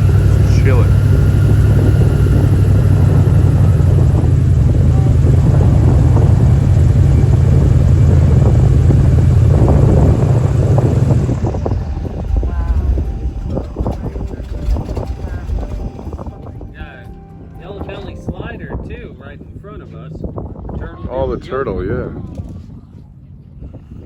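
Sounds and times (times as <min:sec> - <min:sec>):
airboat engine and propeller: 0:00.0 - 0:24.0.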